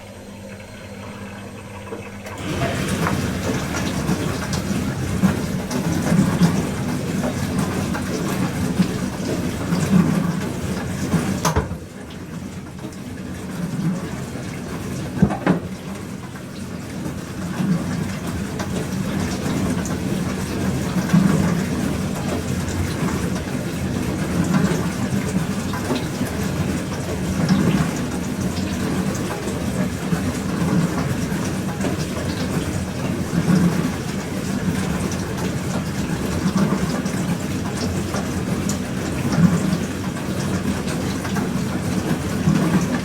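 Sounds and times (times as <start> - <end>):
dishwasher pump humming: 0.0 - 43.0
water spraying inside dishwasher: 0.0 - 43.0.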